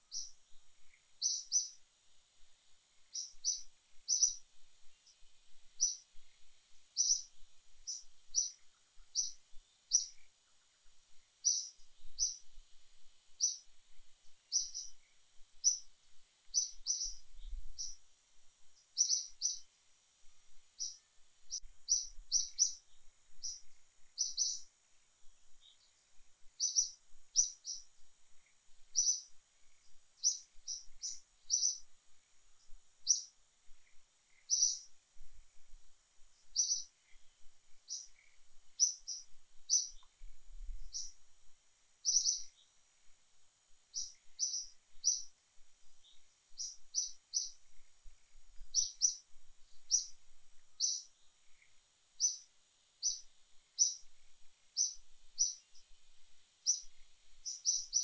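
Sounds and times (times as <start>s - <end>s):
small bird chirping: 0.0s - 41.2s, 41.9s - 43.2s, 43.8s - 58.0s
faint high hiss: 0.0s - 58.0s.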